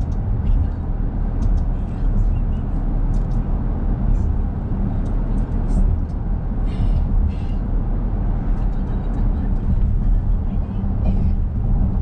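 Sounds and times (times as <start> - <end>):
car tyres and engine rumbling: 0.0 - 12.0.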